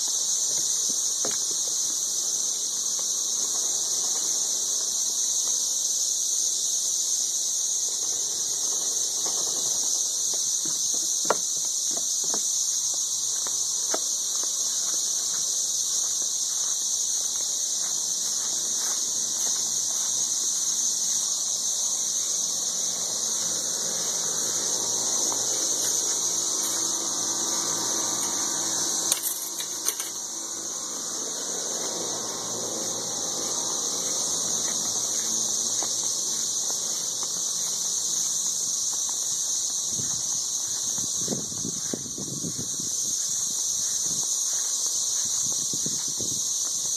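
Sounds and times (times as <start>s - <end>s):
cicadas droning: 0.0s - 46.9s.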